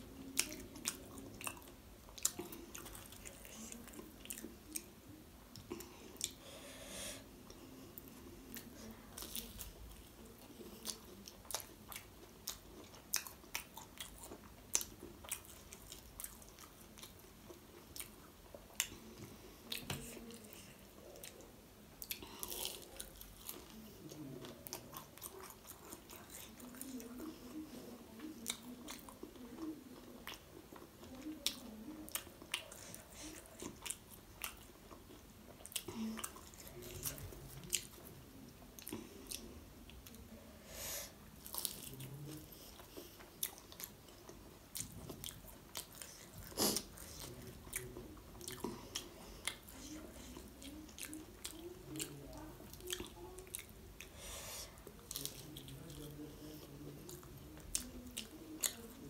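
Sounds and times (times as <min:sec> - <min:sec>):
chewing crisp fried dumplings: 0:00.0 - 0:59.0.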